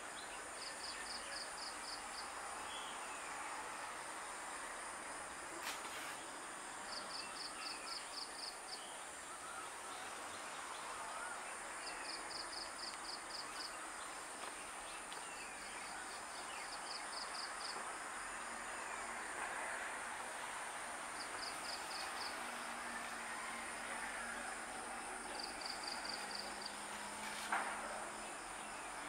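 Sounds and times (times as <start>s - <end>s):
high insect hiss: 0.0s - 29.0s.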